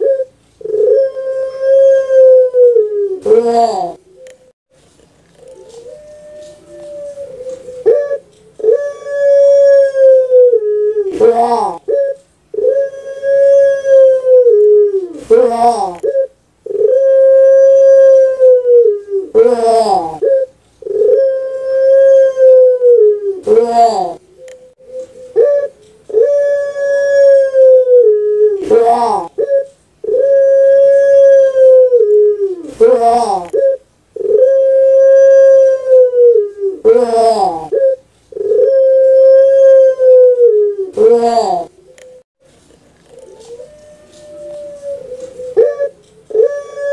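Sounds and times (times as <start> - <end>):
dove cooing: 0.0 - 4.5, 5.3 - 42.2, 43.0 - 46.9.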